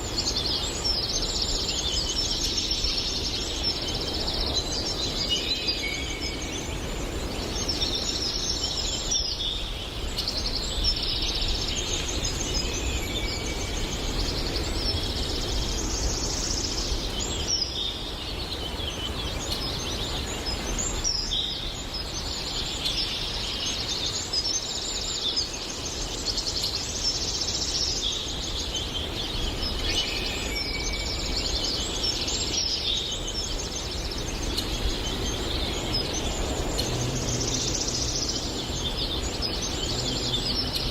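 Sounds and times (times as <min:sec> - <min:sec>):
birds singing trills and chirps: 0:00.0 - 0:40.9.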